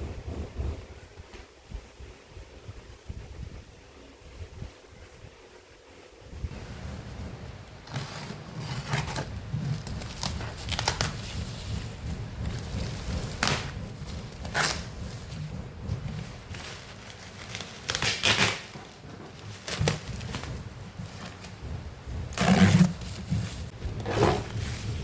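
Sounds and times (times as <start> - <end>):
steady low hum: 0.0 - 18.0, 19.0 - 25.0
rustling and crinkling: 4.3 - 25.0.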